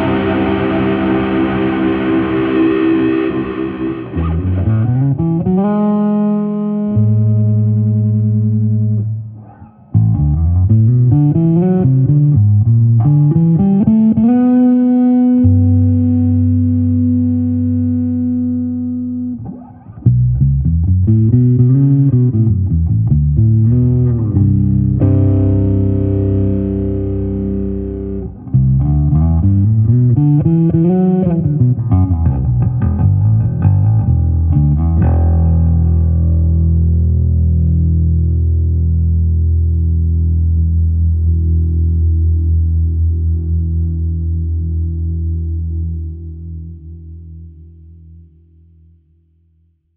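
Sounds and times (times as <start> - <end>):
plucked electric bass notes: 0.0 - 49.0.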